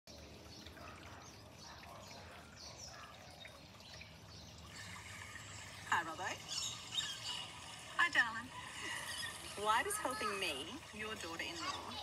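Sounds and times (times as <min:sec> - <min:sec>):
water trickling over stones: 0:00.1 - 0:12.0.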